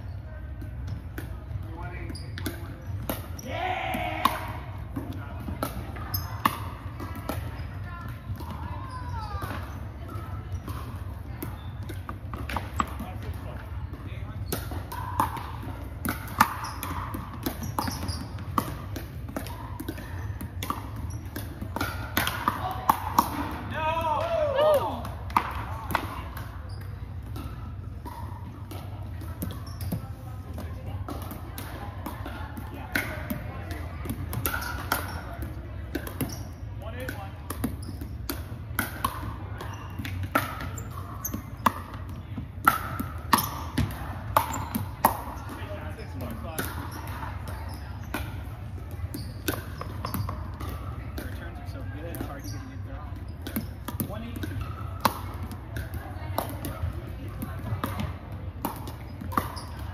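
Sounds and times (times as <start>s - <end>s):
ball bouncing on hardwood court: 0.4s - 59.9s
paddles hitting plastic ball: 0.5s - 59.9s.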